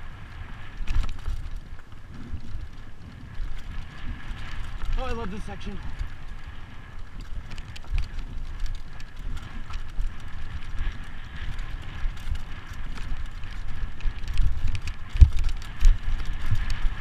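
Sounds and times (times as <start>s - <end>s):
bike tyres rumbling on rough ground: 0.0s - 17.0s
bike knocking and clattering: 0.8s - 5.2s, 6.1s - 17.0s.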